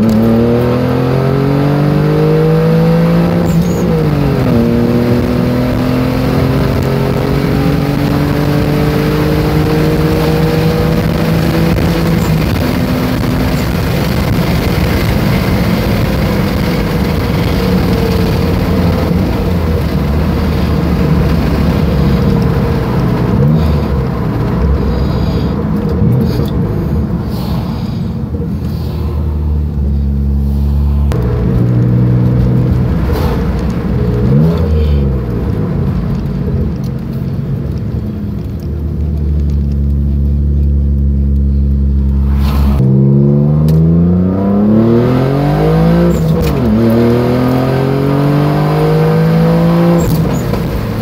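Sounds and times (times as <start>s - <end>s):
car engine accelerating: 0.0s - 51.0s
road and tyre noise: 0.0s - 51.0s.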